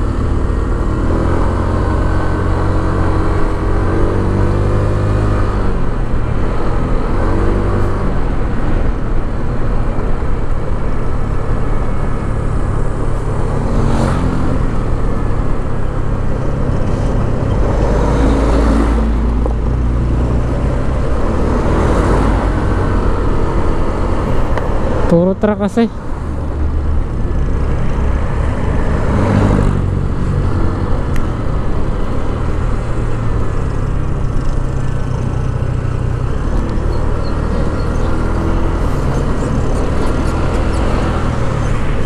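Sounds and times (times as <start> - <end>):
wind and road noise: 0.0 - 42.0
rushes of noise: 0.9 - 42.0.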